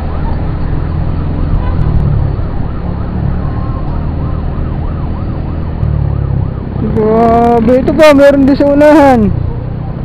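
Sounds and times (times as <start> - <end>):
vehicle siren yelping: 0.0 - 10.0.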